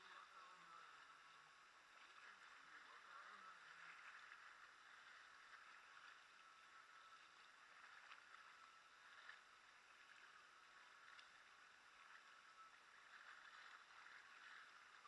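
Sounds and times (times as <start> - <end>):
faint water hiss: 0.0 - 15.0
paddle splashes and drips: 0.0 - 15.0.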